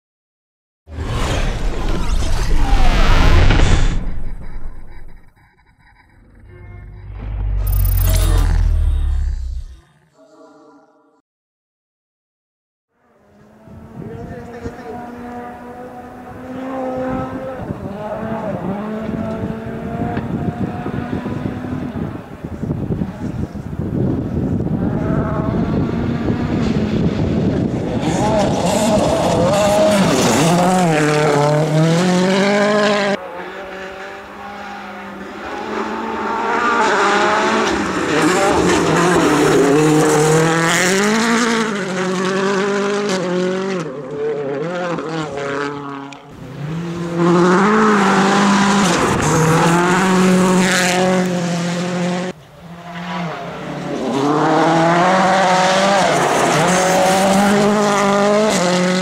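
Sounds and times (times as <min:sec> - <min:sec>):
rally car engine revving: 0:01.0 - 0:09.9, 0:13.2 - 0:59.0.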